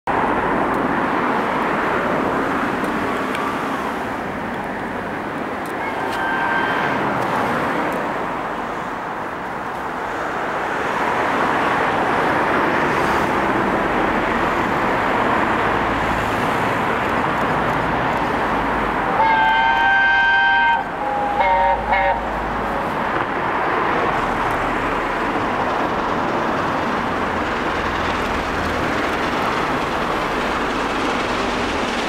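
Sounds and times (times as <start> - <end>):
rushing vehicle noise: 0.1 - 32.0.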